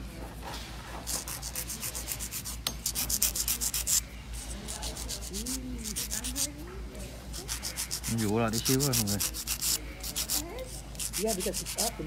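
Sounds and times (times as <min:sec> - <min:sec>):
nail file rasping on nail: 0:01.0 - 0:06.6, 0:07.3 - 0:12.0.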